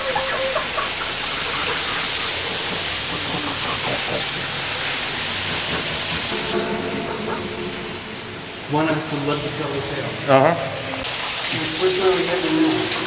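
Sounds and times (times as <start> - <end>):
water rushing through tunnel: 0.0 - 13.0.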